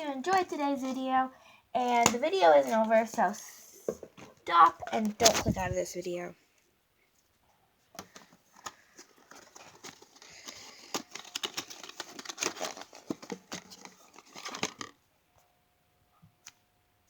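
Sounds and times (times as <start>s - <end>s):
crinkling rustles and clicks: 0.0s - 6.2s, 7.2s - 15.5s.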